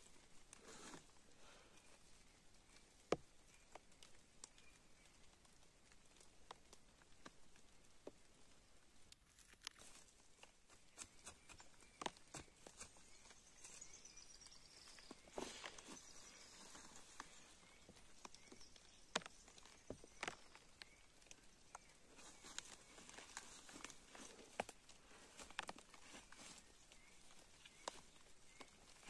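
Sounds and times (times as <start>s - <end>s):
sticks and leaves being handled: 0.0s - 29.0s.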